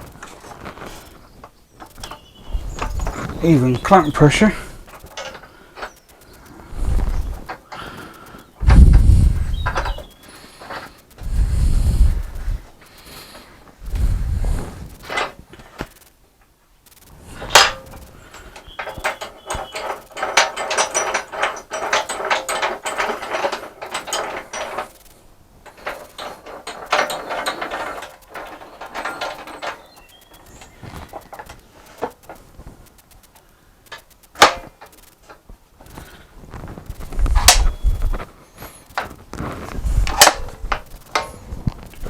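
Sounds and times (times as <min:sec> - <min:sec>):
clamps clicking and ratcheting: 0:00.0 - 0:13.4, 0:16.9 - 0:36.3, 0:36.9 - 0:42.0.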